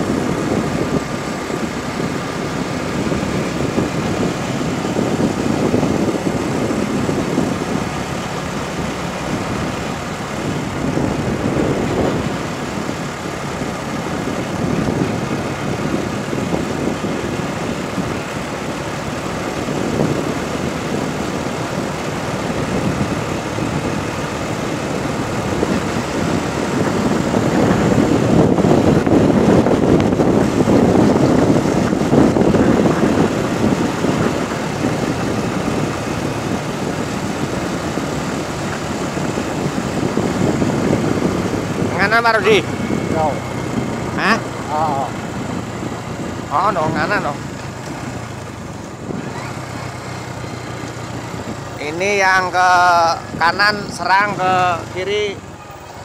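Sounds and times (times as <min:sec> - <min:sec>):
tyres on asphalt: 0:00.0 - 0:56.0
vehicle engine running: 0:00.0 - 0:56.0
wind buffeting microphone: 0:00.0 - 0:56.0.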